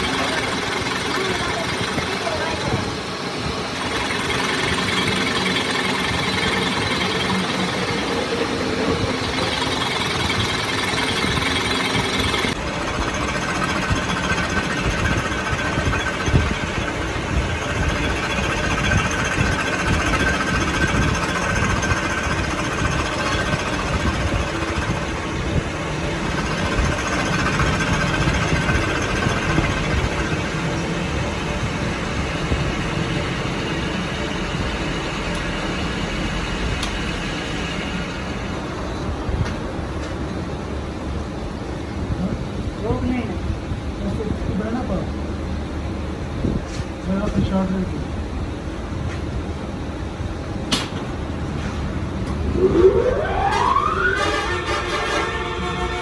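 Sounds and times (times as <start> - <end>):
machinery clattering: 0.0 - 41.0, 50.4 - 56.0.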